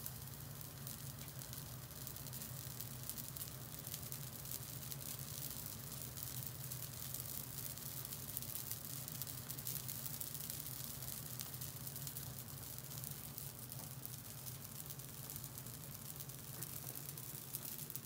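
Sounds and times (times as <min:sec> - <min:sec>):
buns sizzling on grill: 0:00.0 - 0:18.0.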